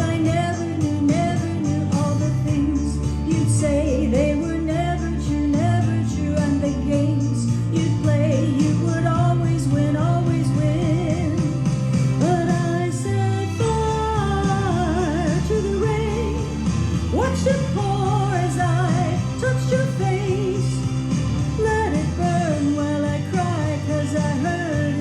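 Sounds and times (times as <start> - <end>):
backing band with drums and bass: 0.0 - 25.0
woman singing pop ballad: 0.0 - 25.0.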